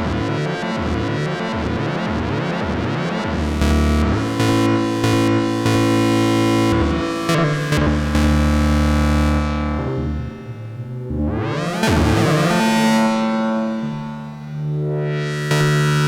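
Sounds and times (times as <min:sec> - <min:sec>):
buzzy synthesizer bass notes: 0:00.0 - 0:16.0.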